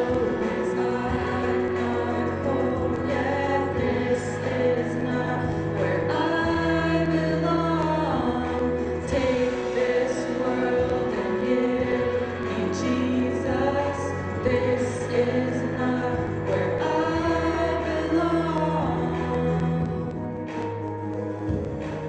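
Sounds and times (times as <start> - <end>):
women singing: 0.0 - 20.7.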